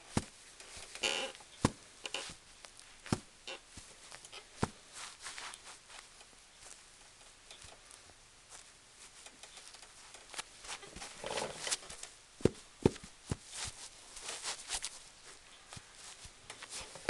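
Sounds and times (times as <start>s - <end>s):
shoes scuffing and clicking: 0.0s - 6.9s, 7.5s - 17.0s
rubbing rustle: 0.0s - 17.0s.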